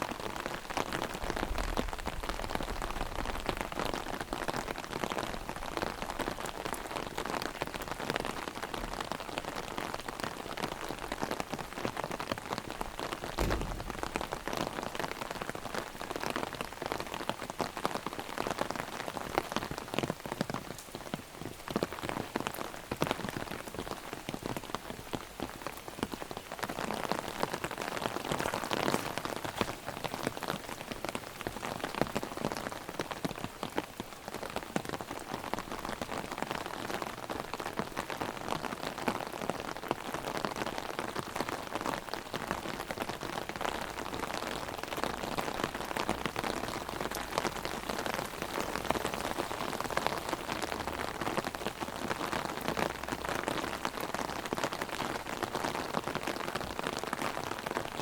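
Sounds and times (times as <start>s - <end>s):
heavy rain on an umbrella: 0.0s - 58.0s.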